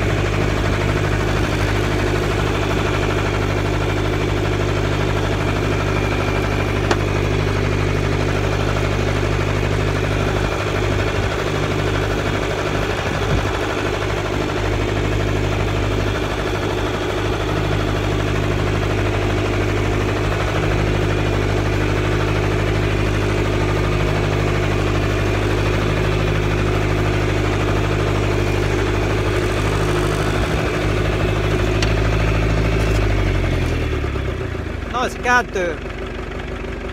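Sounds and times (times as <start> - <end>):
tractor engine under load: 0.0 - 36.9.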